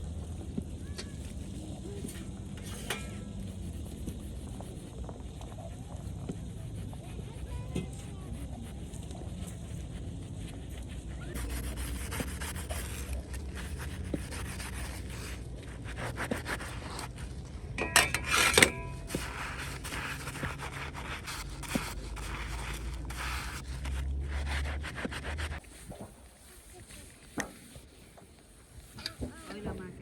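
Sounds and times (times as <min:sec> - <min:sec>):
rubbing and scraping: 0:00.6 - 0:30.0.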